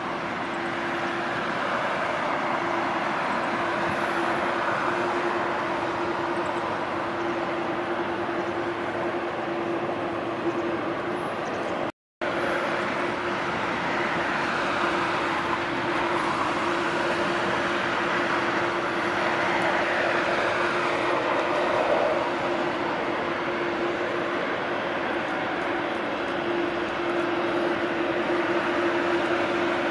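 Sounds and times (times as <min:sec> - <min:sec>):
jet engines running: 0:00.0 - 0:29.9.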